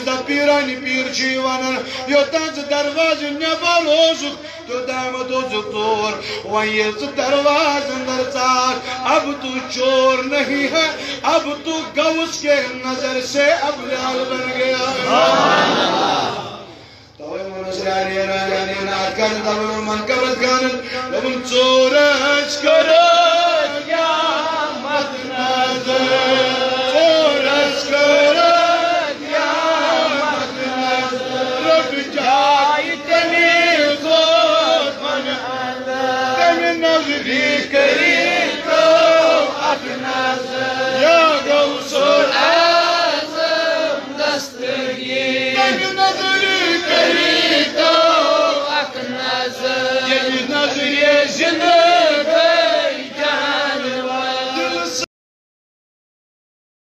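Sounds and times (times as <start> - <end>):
man chanting through microphone: 0.0 - 55.1.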